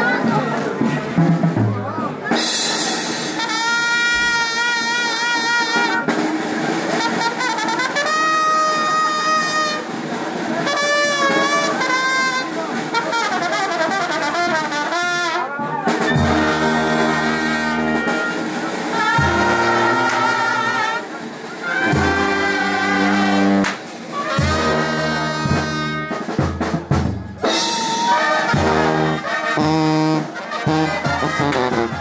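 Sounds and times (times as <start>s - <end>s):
trumpets playing melody: 2.3s - 32.0s.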